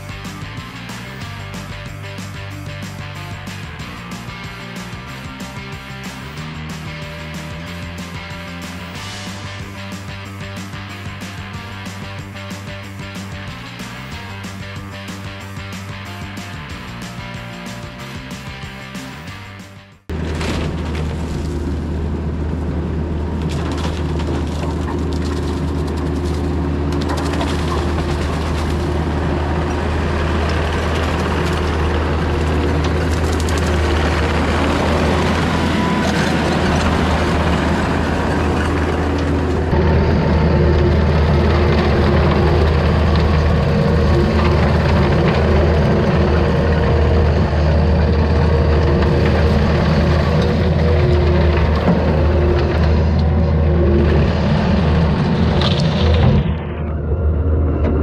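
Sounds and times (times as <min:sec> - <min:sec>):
diesel engine at high throttle: 0:00.0 - 0:58.0.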